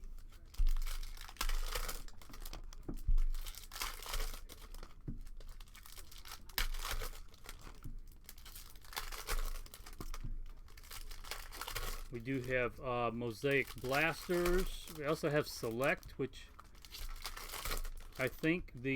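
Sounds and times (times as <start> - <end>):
card pack wrappers crinkling: 0.0 - 18.9.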